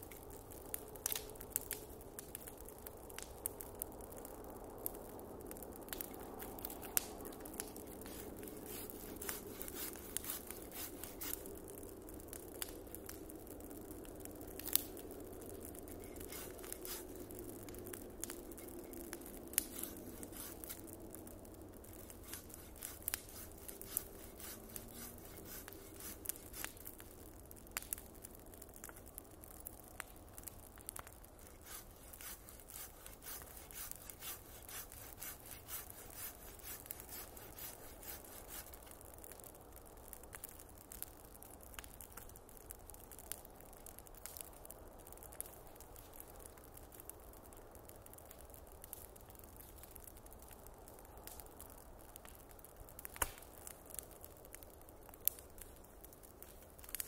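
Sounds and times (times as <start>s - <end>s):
wood bonfire crackling: 0.0s - 57.0s.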